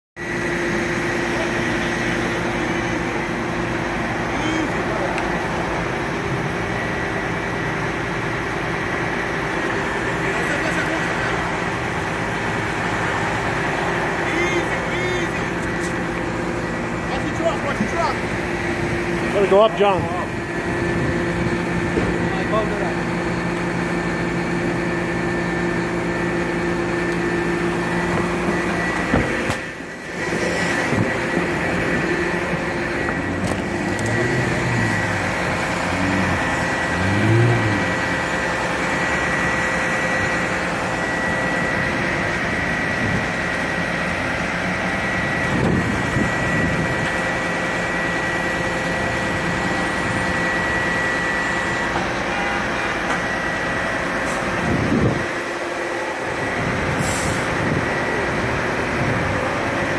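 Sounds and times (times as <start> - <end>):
crane engine running: 0.2 - 59.9
rising-and-falling whines: 0.2 - 59.9
street traffic: 0.2 - 59.9.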